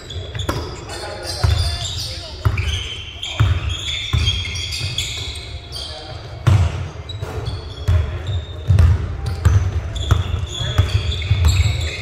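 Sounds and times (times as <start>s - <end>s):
shoe squeaks: 0.0s - 12.0s
voices: 0.0s - 12.0s
basketball bouncing on court: 0.1s - 5.5s, 6.1s - 12.0s.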